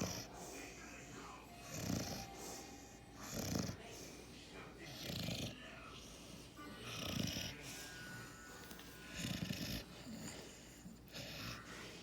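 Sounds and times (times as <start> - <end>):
puppy snoring: 0.0 - 0.8, 1.6 - 4.0, 4.8 - 6.1, 6.8 - 12.0.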